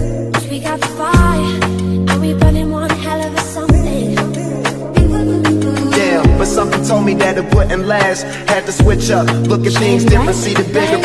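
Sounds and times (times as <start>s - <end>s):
music with deep bass beat: 0.0s - 11.0s.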